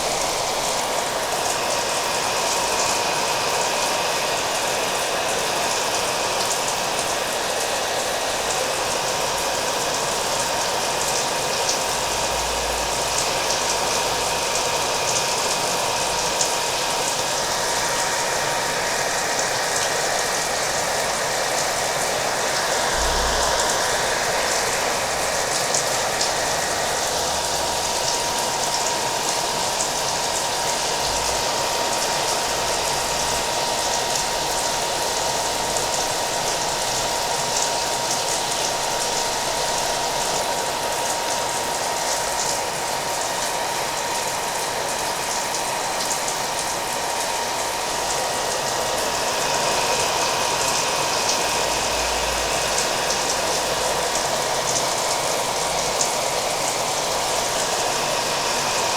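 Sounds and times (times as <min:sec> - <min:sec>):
hair dryer running: 0:00.0 - 0:58.9
rain falling: 0:05.4 - 0:58.9.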